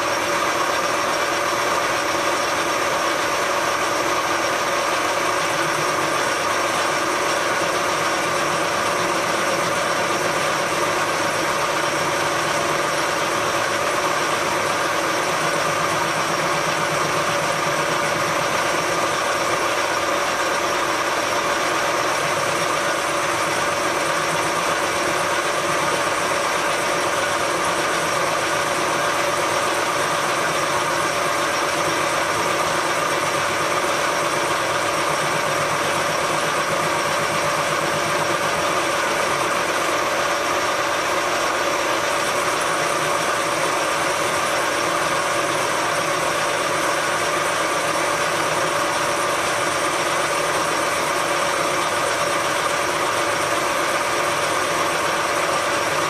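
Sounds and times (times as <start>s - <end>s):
metal lathe humming: 0.0s - 56.0s.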